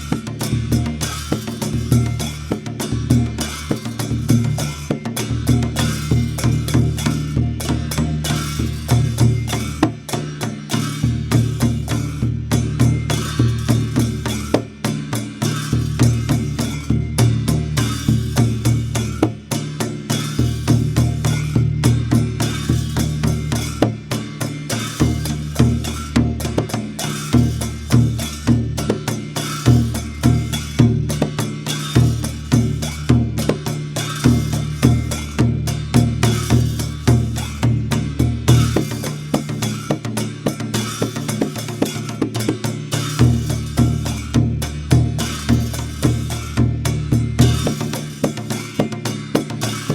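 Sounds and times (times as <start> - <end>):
barrel drum played in rhythm: 0.0 - 49.9
cymbals ringing: 0.0 - 49.9.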